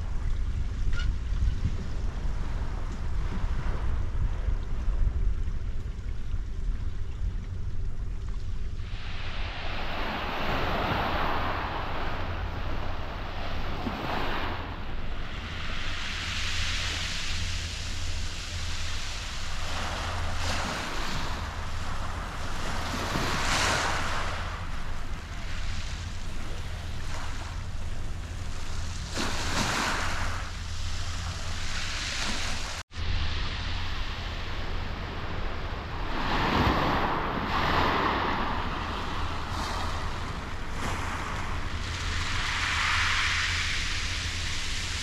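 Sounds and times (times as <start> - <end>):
steady low hum: 0.0 - 45.0
wind on microphone: 0.0 - 45.0
waves washing over shingle: 8.8 - 45.0.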